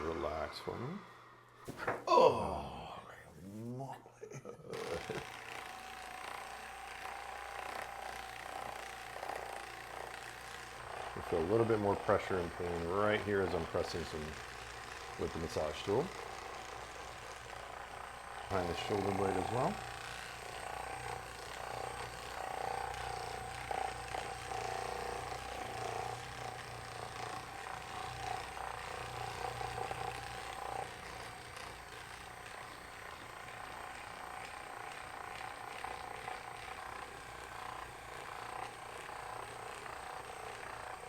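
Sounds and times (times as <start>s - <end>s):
massage gun motor buzz: 0.0s - 3.0s, 4.4s - 41.0s.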